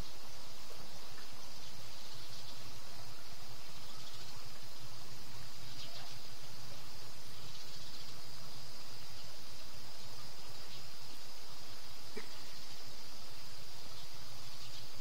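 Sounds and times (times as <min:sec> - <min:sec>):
background hiss: 0:00.0 - 0:15.0
insects trilling: 0:00.0 - 0:15.0.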